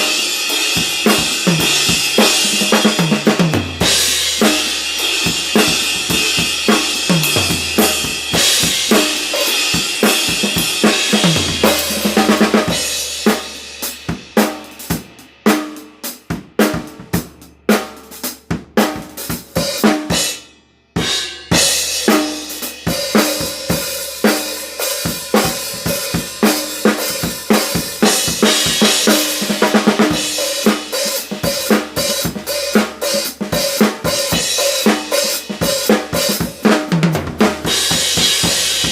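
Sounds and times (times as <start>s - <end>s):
drum kit groove: 0.0s - 38.9s.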